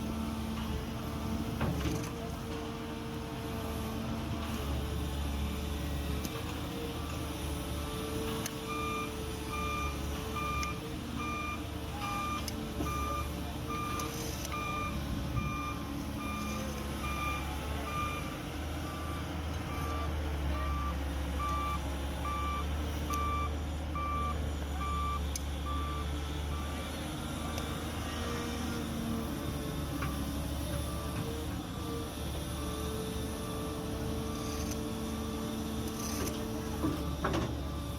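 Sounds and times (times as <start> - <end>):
diesel engine drone: 0.0 - 37.9
vehicle reversing alarm beeping: 6.9 - 37.9.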